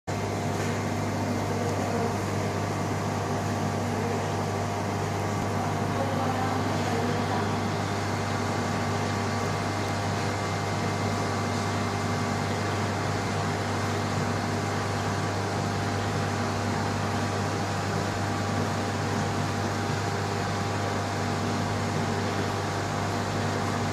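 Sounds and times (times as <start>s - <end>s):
aquarium filter hum: 0.1s - 23.9s.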